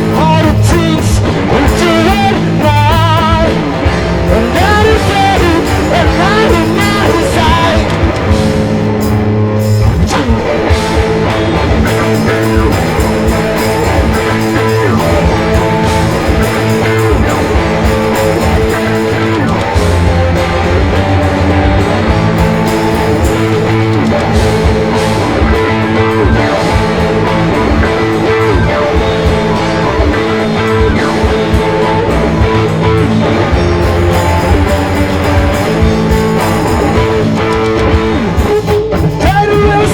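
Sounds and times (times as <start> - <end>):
live rock music: 0.0 - 39.9.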